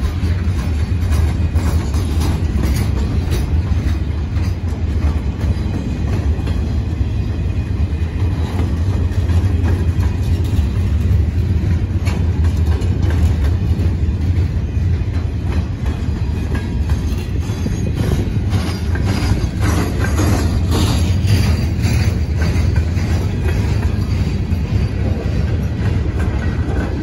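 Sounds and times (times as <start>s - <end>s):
freight train wheels rumbling: 0.0s - 27.0s
train wheels clicking and clacking: 0.0s - 27.0s.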